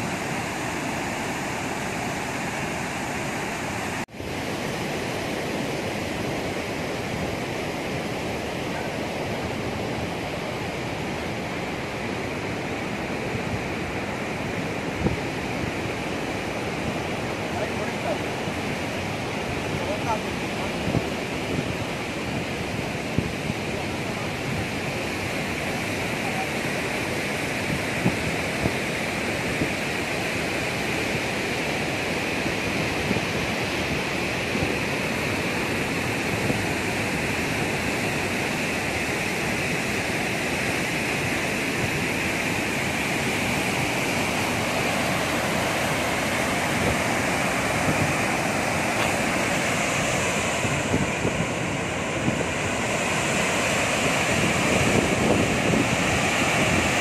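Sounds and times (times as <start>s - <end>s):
waterfall rushing over boulders: 0.0s - 57.0s.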